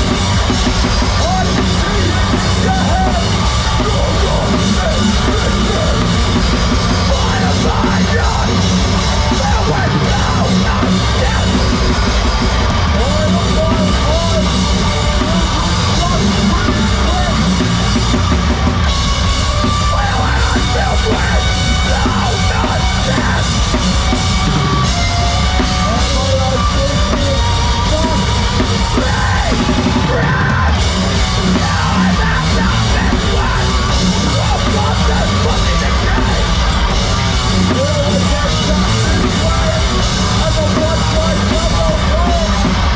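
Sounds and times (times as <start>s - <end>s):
heavy rock band playing live: 0.0s - 42.9s
pounding drum kit: 0.0s - 42.9s.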